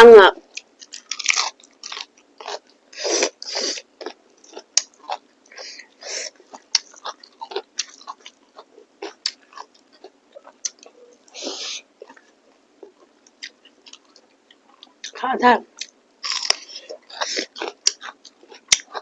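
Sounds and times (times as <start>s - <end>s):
person chewing: 0.5s - 15.2s, 15.8s - 19.0s.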